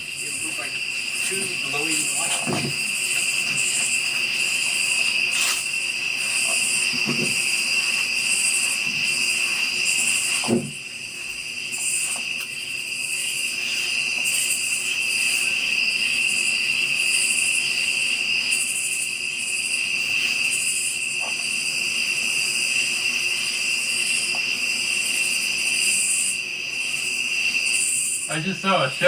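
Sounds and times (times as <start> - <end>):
crickets trilling: 0.0 - 29.0
high pulsing buzz: 0.0 - 29.0.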